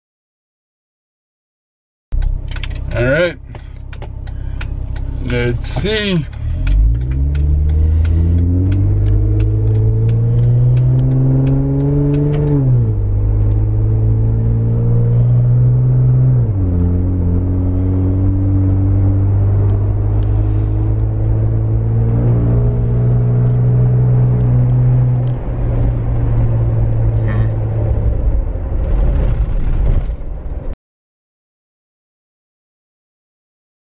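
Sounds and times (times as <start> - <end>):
car engine accelerating through gears: 2.2 - 30.2.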